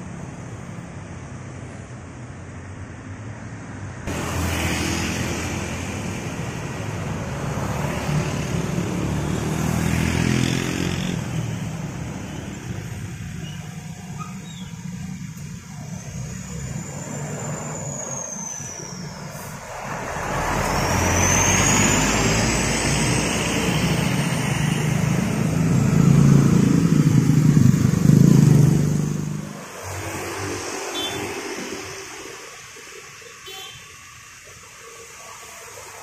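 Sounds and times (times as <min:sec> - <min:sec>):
traffic engines rumbling: 0:00.0 - 0:36.0
tyre noise of passing vehicles: 0:00.0 - 0:36.0.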